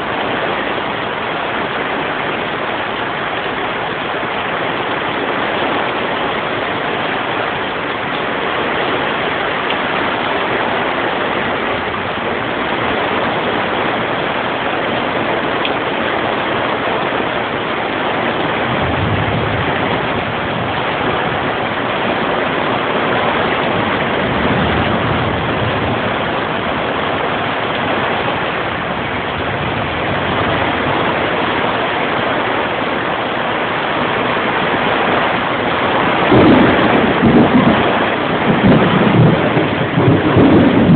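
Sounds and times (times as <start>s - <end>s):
low rumbles: 0.0s - 32.6s, 35.4s - 40.9s
heavy rain: 0.0s - 40.9s.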